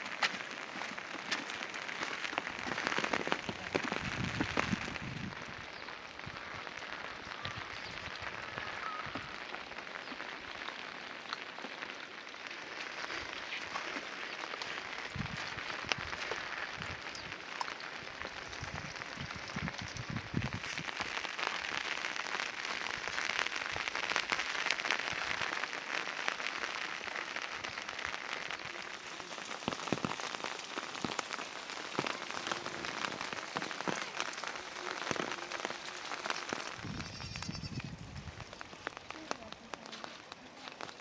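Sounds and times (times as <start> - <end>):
steady rain patter: 0.0 - 41.0.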